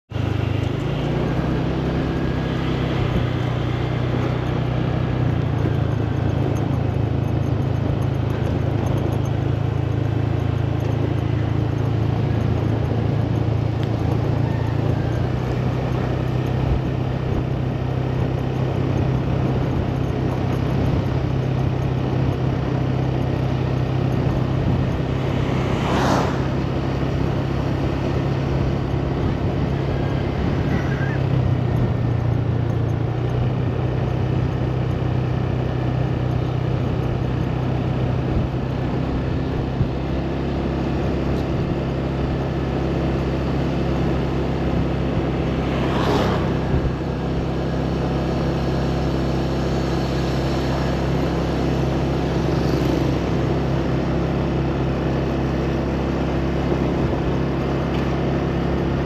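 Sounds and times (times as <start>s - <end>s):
wind and road noise: 0.0s - 59.0s
motor scooter engine humming: 0.1s - 59.0s.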